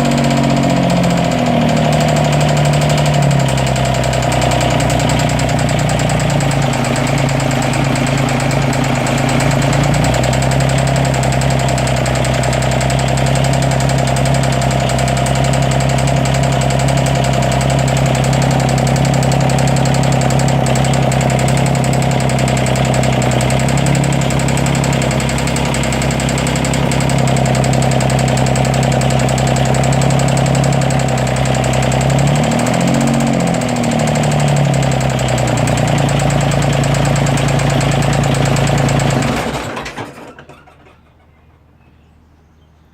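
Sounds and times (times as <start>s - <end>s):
loud engine clicking: 0.0s - 41.8s
diesel engine idling with misfire: 0.0s - 42.9s.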